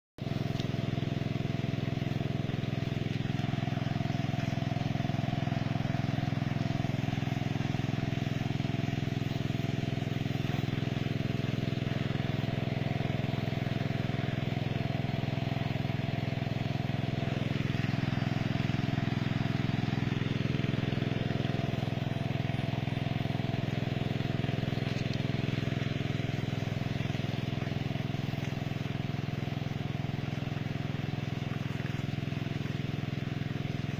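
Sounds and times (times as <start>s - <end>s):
water pump engine running: 0.2s - 33.9s
water spraying from hoses: 0.2s - 33.9s.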